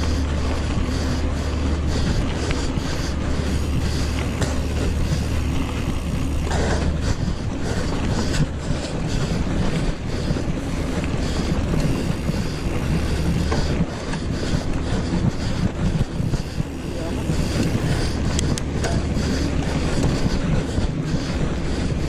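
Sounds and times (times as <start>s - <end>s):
bike tyres rolling on gravel: 0.0s - 22.0s
wind rumbling on microphone: 0.0s - 22.0s.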